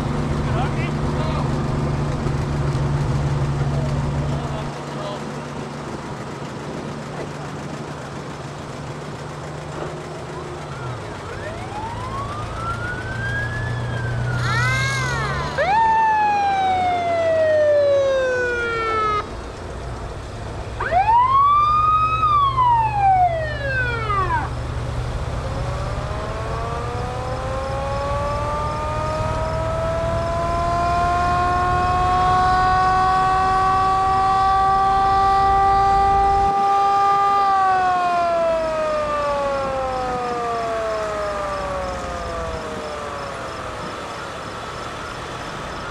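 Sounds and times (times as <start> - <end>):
truck engines rumbling: 0.0 - 45.9
fire truck sirens wailing: 7.5 - 45.9.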